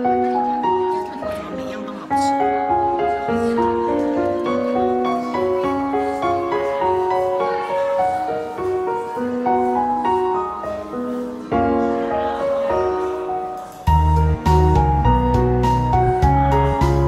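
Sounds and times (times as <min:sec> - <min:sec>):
slow instrumental melody: 0:00.0 - 0:17.0.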